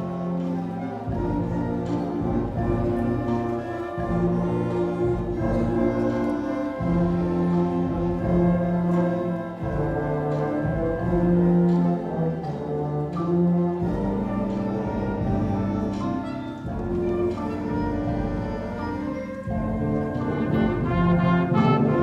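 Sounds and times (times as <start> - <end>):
brass holding long low notes: 0.0 - 22.0
concert band playing: 0.0 - 22.0.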